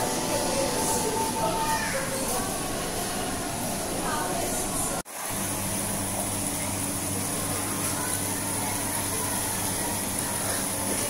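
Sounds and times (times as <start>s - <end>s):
water pouring into fish tanks: 0.0s - 11.0s.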